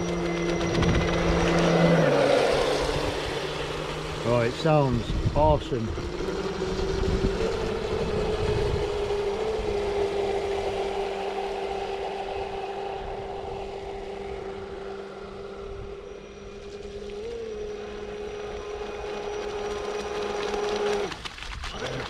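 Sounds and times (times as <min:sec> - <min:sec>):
electric motor whine: 0:00.0 - 0:21.2.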